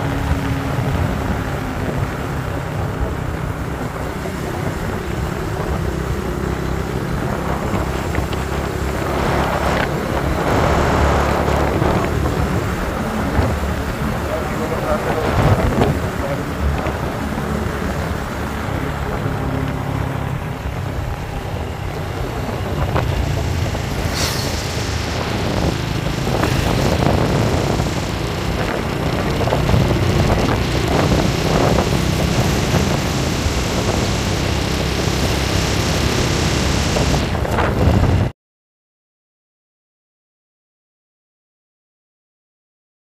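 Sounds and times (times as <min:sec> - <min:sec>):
motorcycle engine: 0:00.0 - 0:38.2
tyre noise on road: 0:00.0 - 0:38.3
wind over microphone: 0:00.0 - 0:38.3.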